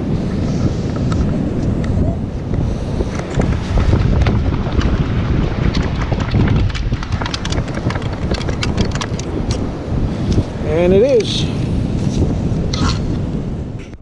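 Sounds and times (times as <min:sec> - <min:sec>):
wind buffeting microphone: 0:00.0 - 0:14.0
sharp clicks and rattles in sand: 0:00.2 - 0:14.0.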